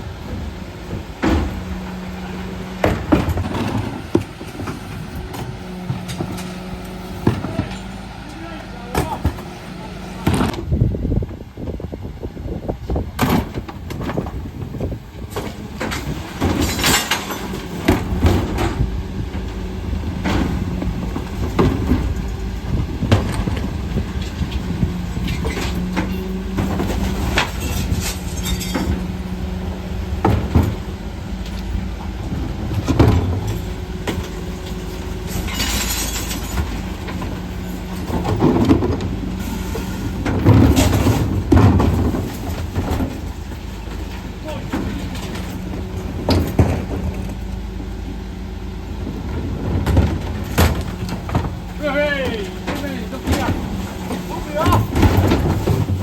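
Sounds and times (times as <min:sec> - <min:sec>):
refuse truck engine and hydraulics hum: 0:00.0 - 0:56.0
wheelie bins banging and clattering: 0:00.0 - 0:56.0.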